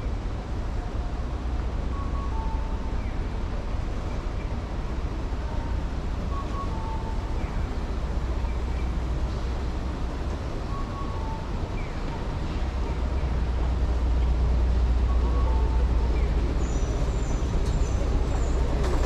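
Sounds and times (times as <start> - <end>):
traffic rumble: 0.0 - 19.0
wind: 0.0 - 19.0.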